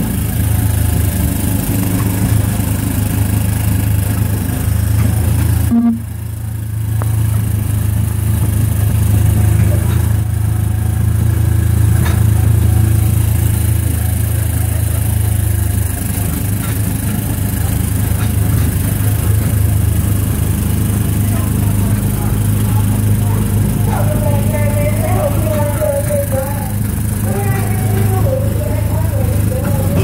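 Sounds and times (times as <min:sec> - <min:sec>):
small gasoline engine droning: 0:00.0 - 0:30.0.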